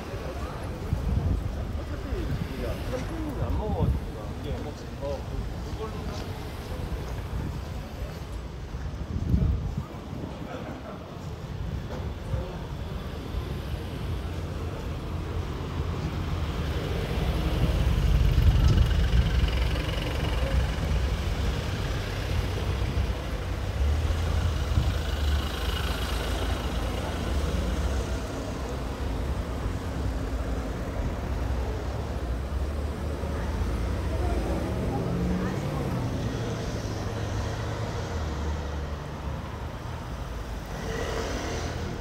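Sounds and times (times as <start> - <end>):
vehicles driving past: 0.0 - 42.0.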